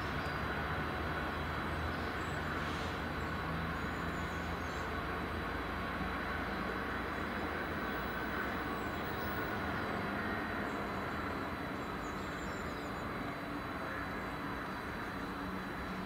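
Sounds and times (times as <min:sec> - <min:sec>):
diesel locomotive engine running: 0:00.0 - 0:16.0
rail and wagon rumble: 0:00.0 - 0:16.0.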